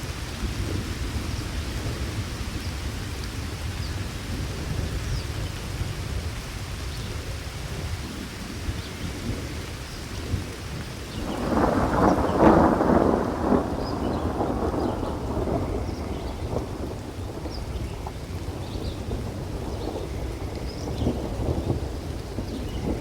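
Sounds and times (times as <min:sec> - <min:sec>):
low rumble of thunder: 0:00.0 - 0:23.0
steady rain: 0:00.0 - 0:23.0.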